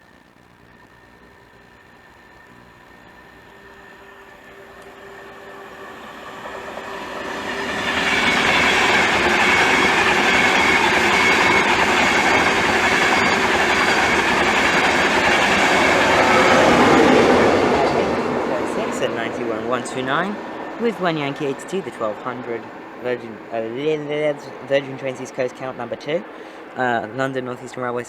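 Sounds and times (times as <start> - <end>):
wheel and rail noise: 0.0 - 28.0
train passing: 0.8 - 28.0.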